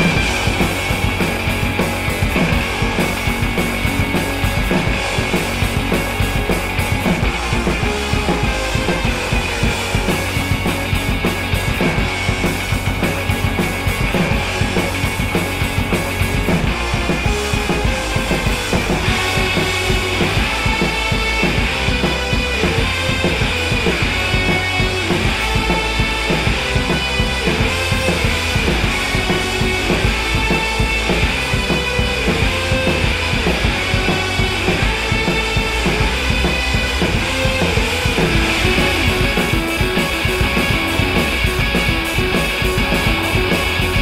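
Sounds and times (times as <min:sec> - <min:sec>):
electric guitar: 0:00.0 - 0:44.0
fast metal drum kit: 0:00.0 - 0:44.0.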